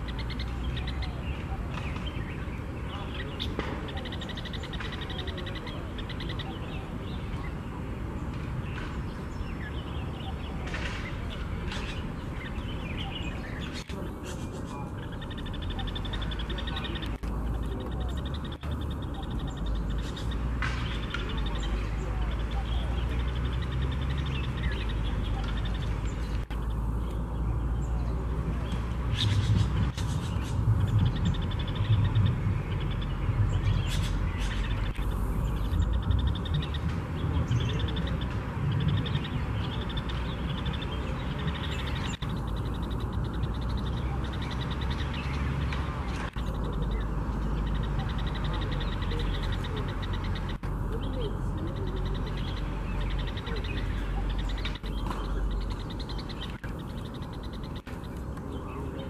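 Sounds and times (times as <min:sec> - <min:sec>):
birds calling: 0:00.0 - 0:59.0
low background noise: 0:00.0 - 0:59.0.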